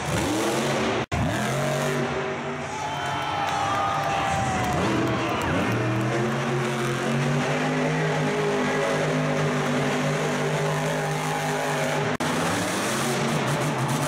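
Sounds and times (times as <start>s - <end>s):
engine running at high revs: 0.0s - 2.6s, 4.2s - 14.0s.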